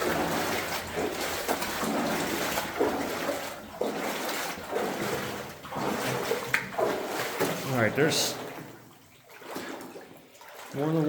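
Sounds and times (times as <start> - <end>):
boots sloshing through shallow water: 0.0 - 11.0.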